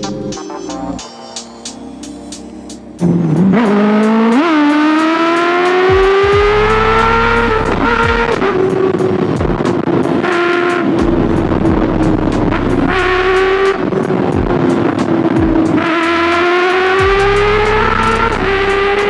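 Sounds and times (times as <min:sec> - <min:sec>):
motorcycle engine accelerating: 0:03.0 - 0:19.0.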